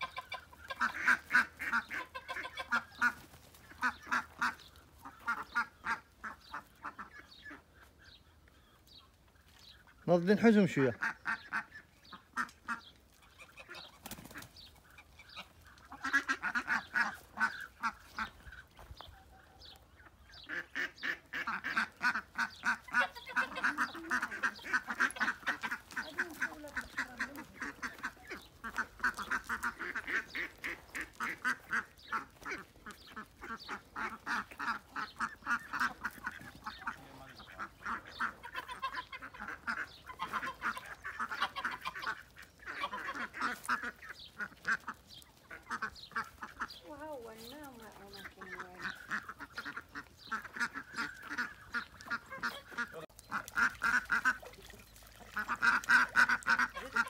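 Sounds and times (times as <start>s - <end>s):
ducks and geese calling: 0.0s - 57.0s.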